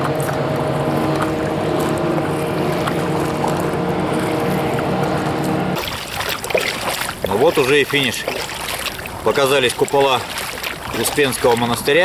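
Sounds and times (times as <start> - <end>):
boat motor running: 0.0 - 12.0
water noise: 0.0 - 12.0
wind: 0.0 - 12.0.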